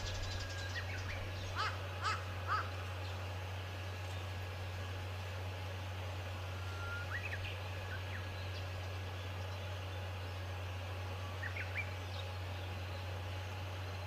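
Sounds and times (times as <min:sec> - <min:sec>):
outdoor background noise: 0:00.0 - 0:14.0
steady low hum: 0:00.0 - 0:14.0.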